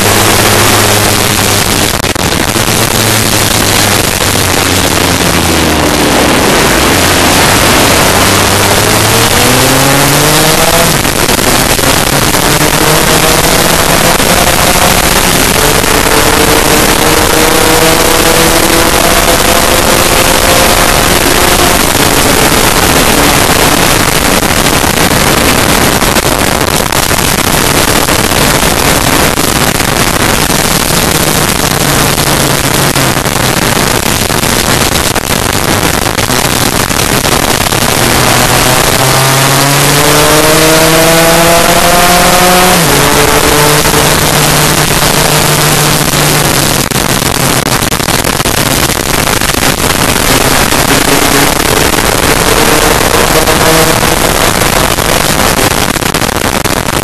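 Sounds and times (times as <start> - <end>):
scooter engine accelerating: 0.0 - 57.0
wind rushing over microphone: 0.0 - 57.0.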